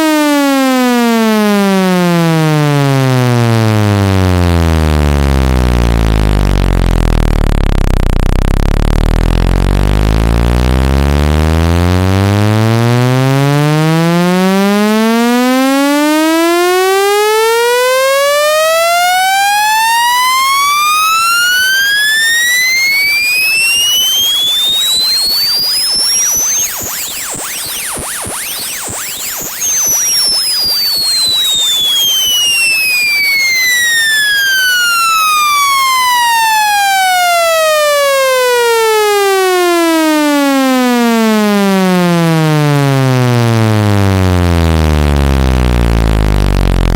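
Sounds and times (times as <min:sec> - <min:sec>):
electronic tone sweeping upward: 0:00.0 - 0:46.9.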